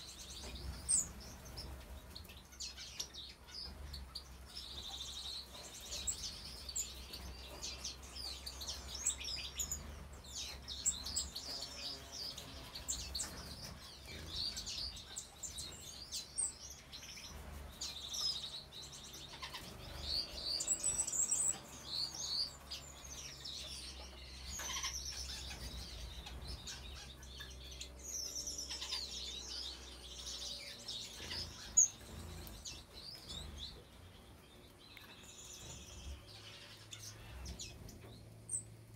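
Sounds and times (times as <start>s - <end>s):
finches chirping: 0.0s - 38.7s.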